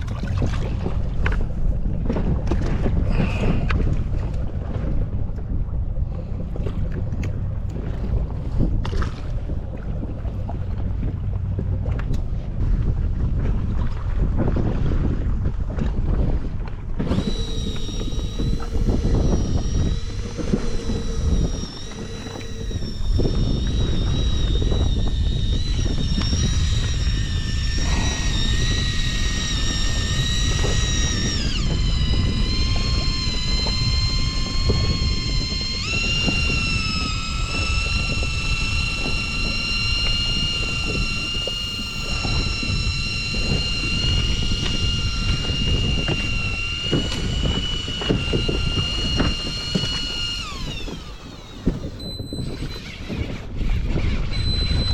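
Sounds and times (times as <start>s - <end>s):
outboard motor whining drone: 0.0s - 54.9s
water noise: 0.0s - 54.9s
wind: 0.0s - 54.9s.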